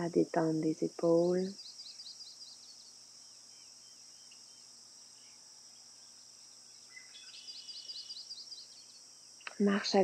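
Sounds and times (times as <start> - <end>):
bird chirping: 0.0 - 10.0
high insect drone: 0.0 - 10.0.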